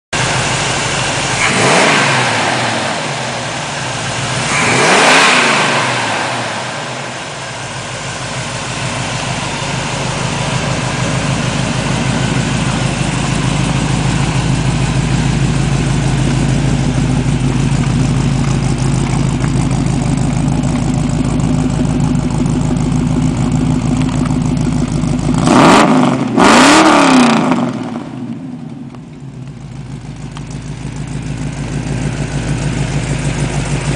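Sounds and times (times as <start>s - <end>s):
pickup truck engine revving and idling: 0.2s - 33.9s.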